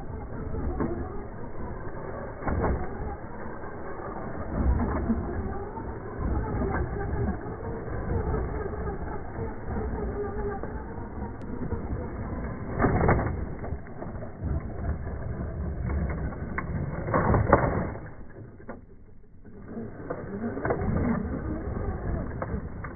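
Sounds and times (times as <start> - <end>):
electric rc buggy motor: 0.0 - 22.9
tyres on loose dirt: 0.0 - 22.9.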